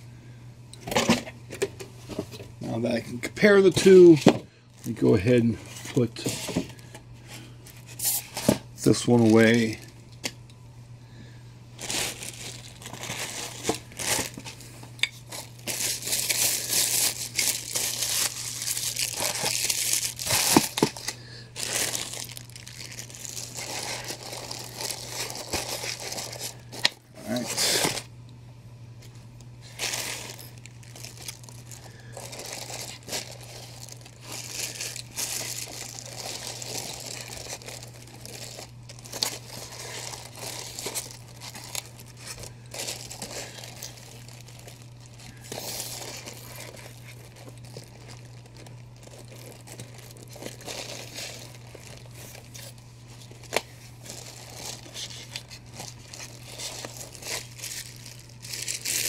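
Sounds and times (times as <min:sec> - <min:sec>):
steady low hum: 0:00.0 - 0:59.0
packaging rustling and crinkling: 0:03.4 - 0:10.0, 0:11.8 - 0:28.1, 0:29.6 - 0:59.0.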